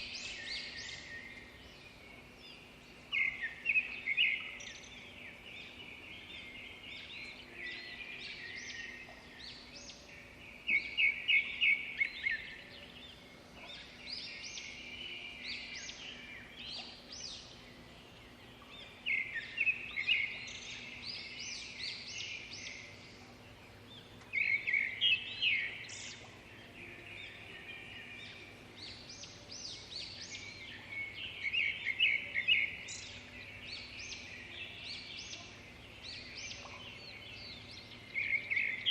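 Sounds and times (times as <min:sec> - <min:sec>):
birds chirping and trilling: 0:00.0 - 0:38.9
faint steady hum: 0:00.0 - 0:38.9.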